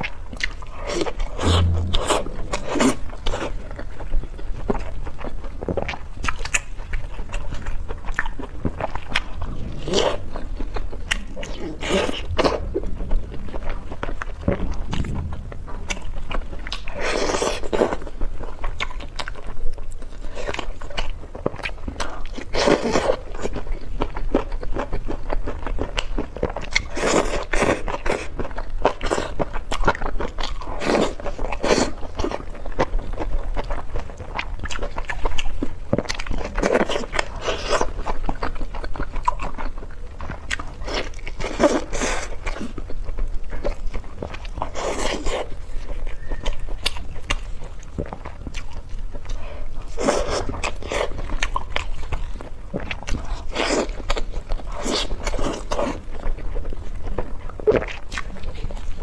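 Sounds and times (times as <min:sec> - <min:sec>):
wet chewing and biting: 0:02.6 - 0:59.0.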